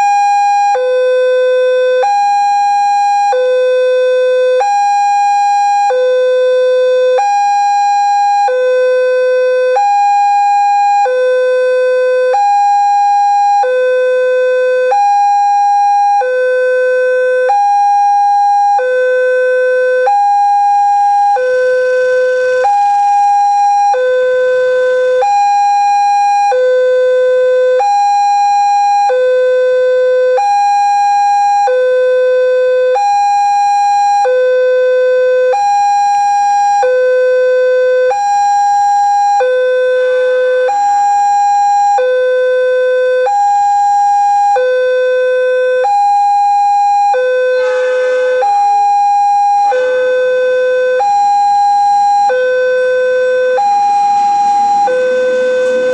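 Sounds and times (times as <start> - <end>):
level-crossing two-tone alarm: 0.0 - 55.9.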